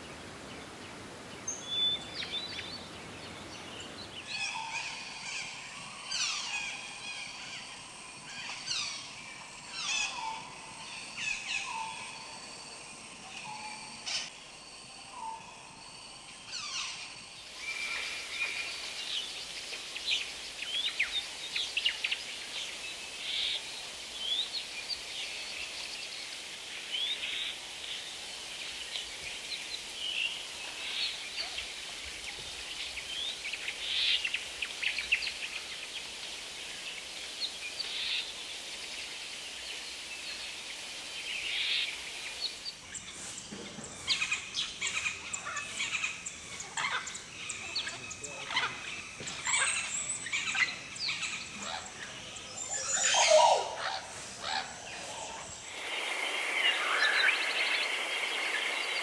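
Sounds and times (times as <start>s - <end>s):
birds chirping and trilling: 0.0s - 7.3s, 16.5s - 43.2s, 43.8s - 59.0s
background hiss: 0.0s - 59.0s.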